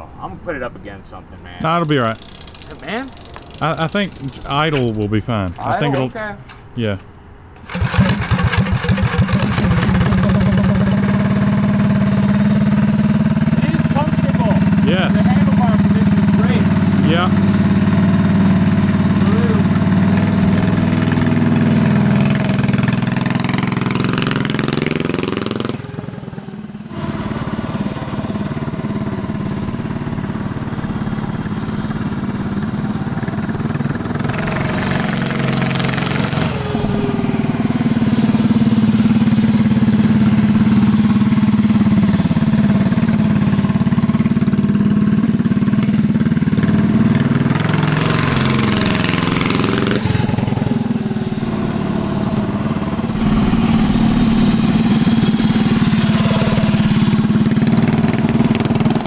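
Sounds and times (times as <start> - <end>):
mini bike engine revving: 1.6 - 4.7, 7.6 - 59.0.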